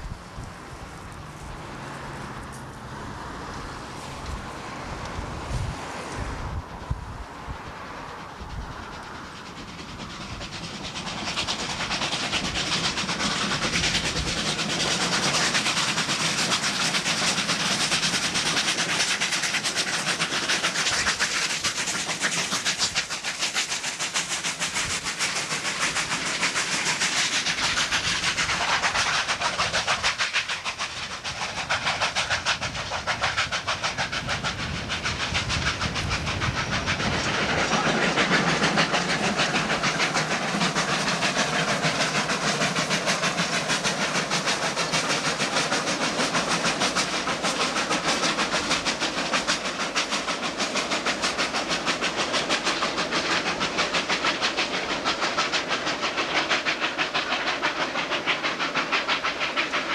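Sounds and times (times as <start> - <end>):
steam train running past: 0.0 - 59.9
steam hiss: 3.3 - 59.9.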